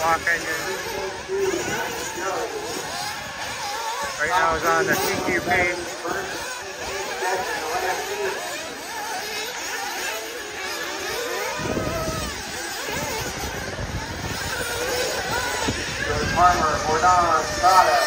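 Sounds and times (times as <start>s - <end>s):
rc car engines whining: 0.0s - 18.0s.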